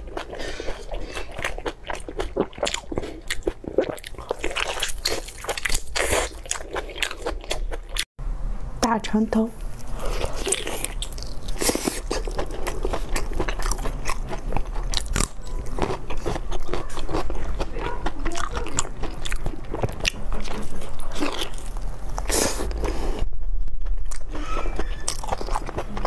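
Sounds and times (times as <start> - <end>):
person chewing and smacking: 0.0 - 8.1, 9.6 - 26.0.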